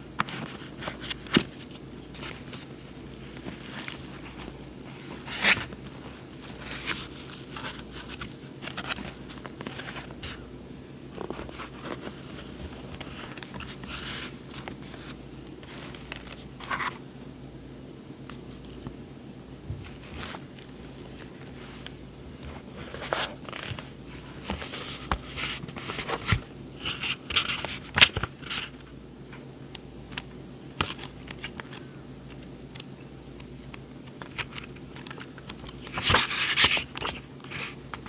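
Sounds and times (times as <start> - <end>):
paper rustling and crinkling: 0.2 - 10.4, 11.1 - 17.0, 19.7 - 28.9, 30.0 - 32.9, 33.6 - 38.0.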